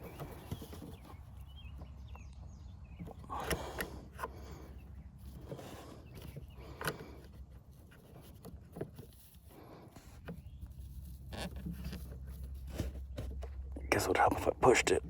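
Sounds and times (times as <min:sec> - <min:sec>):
rustling and scraping of hose: 0:00.0 - 0:14.5.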